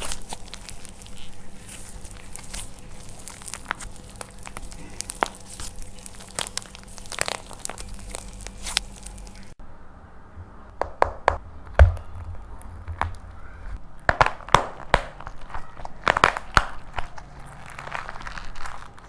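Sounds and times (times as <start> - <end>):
dried clay cracking and crunching: 0.0 - 9.6, 10.8 - 19.0.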